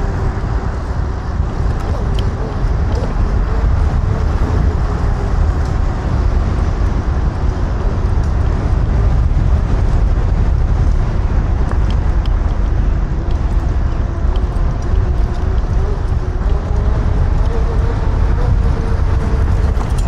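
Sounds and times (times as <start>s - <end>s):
electric scooter road noise: 0.0s - 20.0s
wind buffeting microphone: 0.0s - 20.0s.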